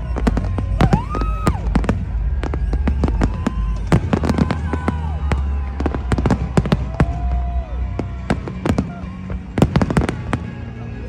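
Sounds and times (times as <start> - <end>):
firework whistle: 0.0 - 10.6
fireworks bangs and cracks: 0.0 - 10.7
steady low rumble: 0.0 - 11.0.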